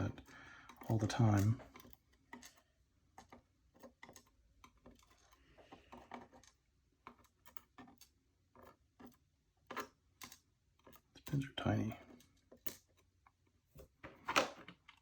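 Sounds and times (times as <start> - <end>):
small metal lock parts clicking: 0.0 - 13.1.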